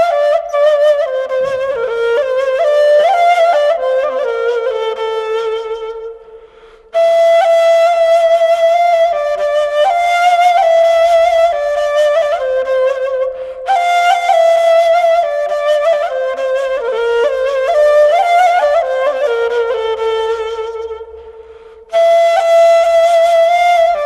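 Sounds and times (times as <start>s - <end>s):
solo flute melody: 0.0s - 24.0s.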